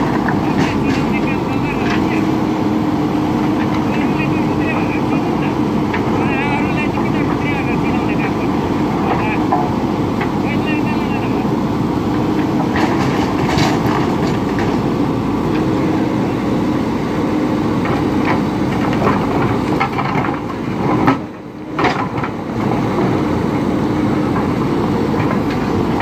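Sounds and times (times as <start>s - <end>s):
diesel engine under load: 0.0s - 26.0s.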